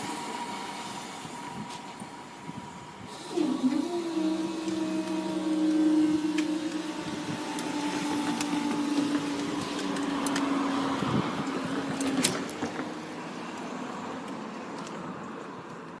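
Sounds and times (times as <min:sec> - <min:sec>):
diesel train engine hum: 0:00.0 - 0:16.0.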